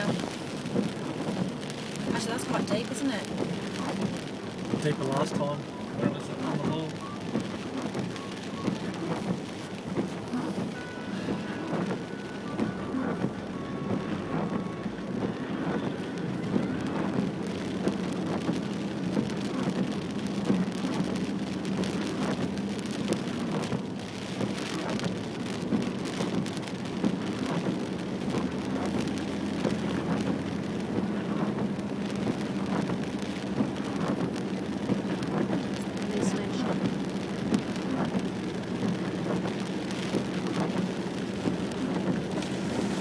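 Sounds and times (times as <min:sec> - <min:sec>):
rain on a vehicle: 0:00.0 - 0:43.0.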